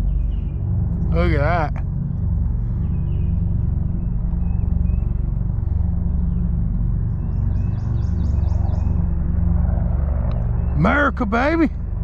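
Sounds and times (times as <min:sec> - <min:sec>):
motorboat engine rumbling: 0:00.0 - 0:12.0.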